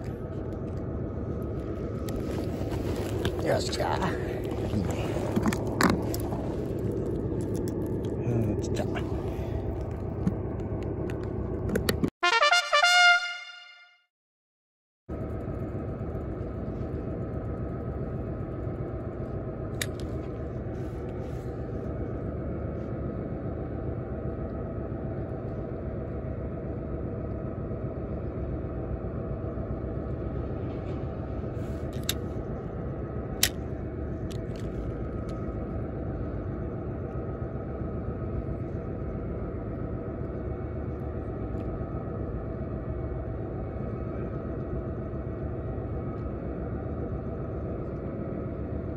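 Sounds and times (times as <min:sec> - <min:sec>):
faint steady whine: 0:00.0 - 0:12.4, 0:15.1 - 0:48.9
low background rumble: 0:00.0 - 0:13.4, 0:15.1 - 0:48.9.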